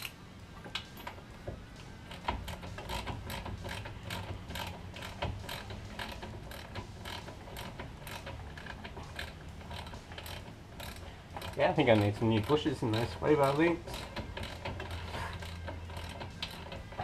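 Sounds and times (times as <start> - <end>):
socket ratchet clicking: 2.1 - 17.0.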